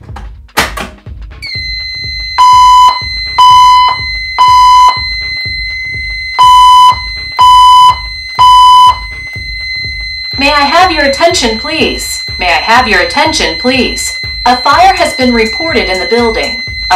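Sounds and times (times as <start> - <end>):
background music with low beat: 0.0 - 16.9
evacuation tone beeps: 1.4 - 16.9.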